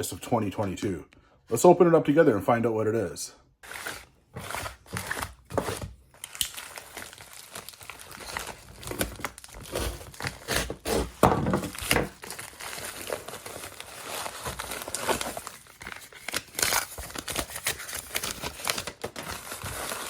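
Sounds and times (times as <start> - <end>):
packaging tearing and crinkling: 3.6 - 20.0.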